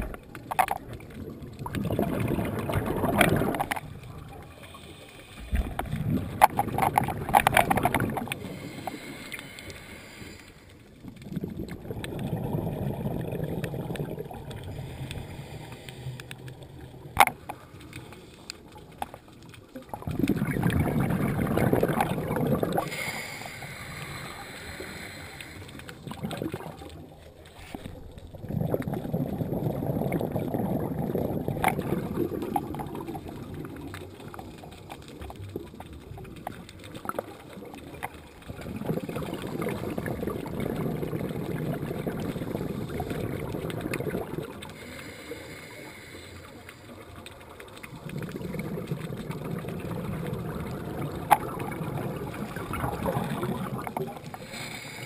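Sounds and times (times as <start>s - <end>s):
underwater exhaled bubbles: 0.0s - 55.0s.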